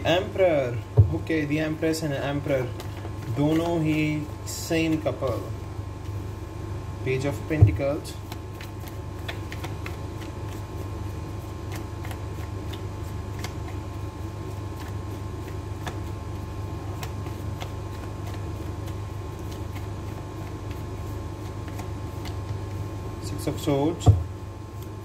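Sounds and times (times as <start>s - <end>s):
steady low hum: 0.0s - 25.0s
cards shuffled by hand: 1.2s - 6.2s, 7.2s - 24.1s.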